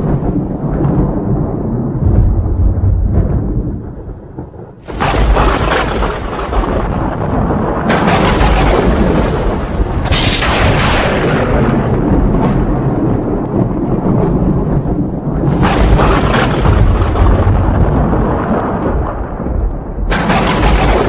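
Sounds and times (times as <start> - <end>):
sharp crackling thunder peals: 0.0 - 21.0
steady rain: 0.0 - 21.0
thunder rumbling: 0.0 - 21.0.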